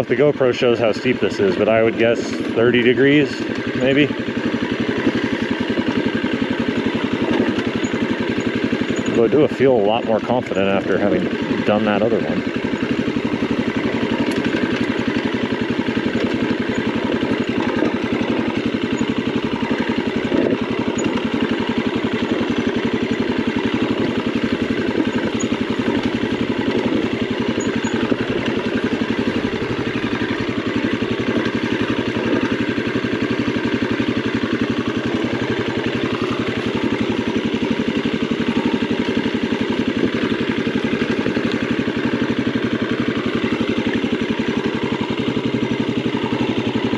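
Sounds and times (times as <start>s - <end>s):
motorcycle engine at low revs: 0.0s - 46.9s.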